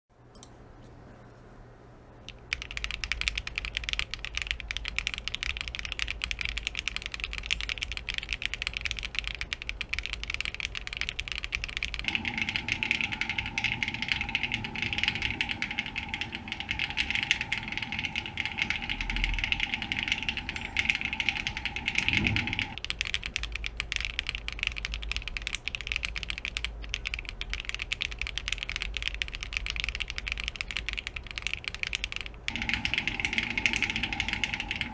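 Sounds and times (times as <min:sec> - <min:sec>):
faint steady hum: 0:00.1 - 0:34.9
mechanical keyboard typing: 0:02.3 - 0:34.9.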